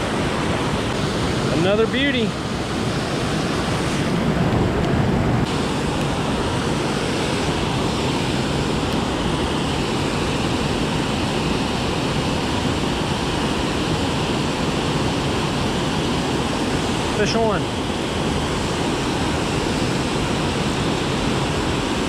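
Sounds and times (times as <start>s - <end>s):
river water pouring over weir: 0.0s - 22.0s.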